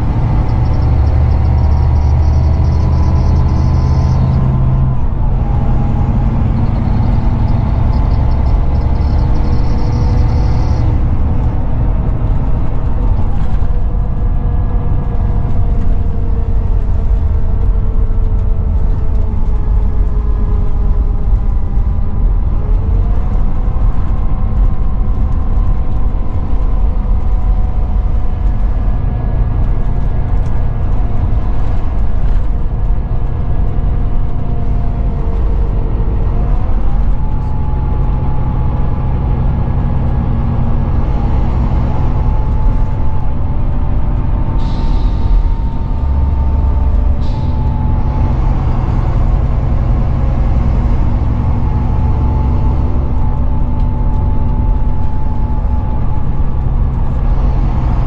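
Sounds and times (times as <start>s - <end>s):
bus engine and road rumble: 0.0s - 58.0s
whining drivetrain tone: 0.0s - 58.0s.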